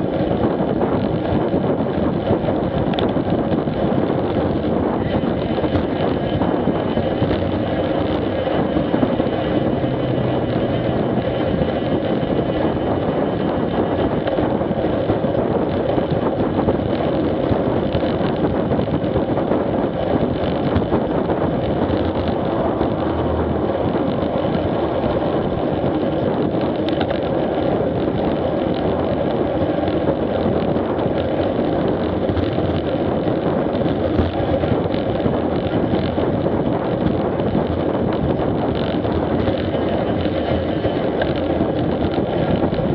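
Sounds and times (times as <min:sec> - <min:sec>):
tyres rolling on pavement: 0:00.0 - 0:42.9
wind noise on microphone: 0:00.0 - 0:42.9.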